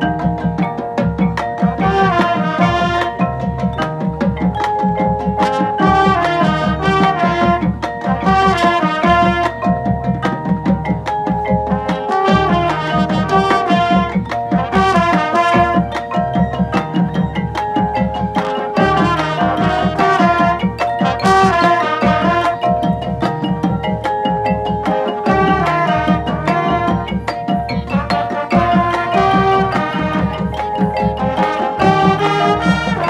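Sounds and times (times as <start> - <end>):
marching band music: 0.0 - 33.0
marimbas playing quick runs: 0.0 - 33.0.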